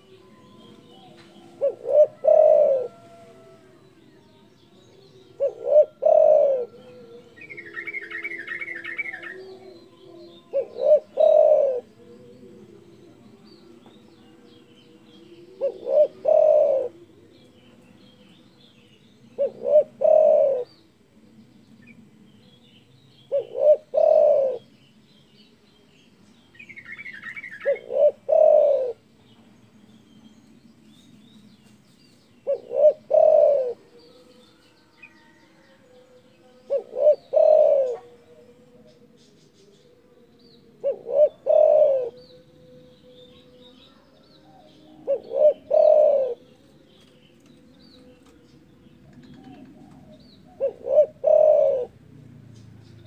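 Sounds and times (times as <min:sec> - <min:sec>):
dove cooing: 0:00.0 - 0:18.5, 0:19.3 - 0:20.8, 0:23.2 - 0:24.8, 0:26.7 - 0:29.2, 0:32.3 - 0:40.0, 0:40.6 - 0:47.2, 0:47.8 - 0:53.0.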